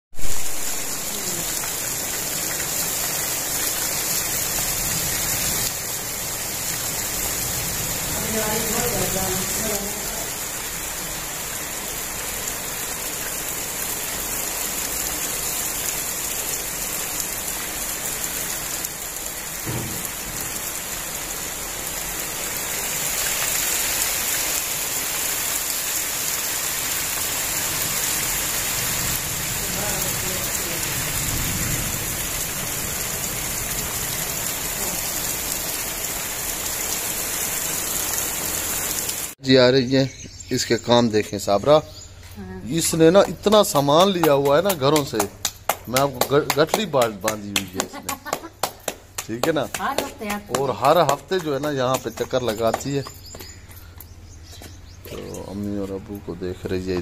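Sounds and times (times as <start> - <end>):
heavy rain on roofs: 0.1 - 39.4, 42.6 - 53.8.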